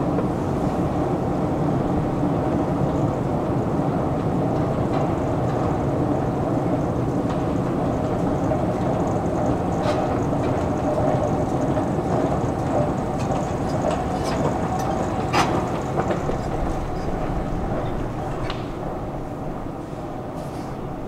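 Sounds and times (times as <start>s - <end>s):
escalator mechanical rumble: 0.0s - 21.0s.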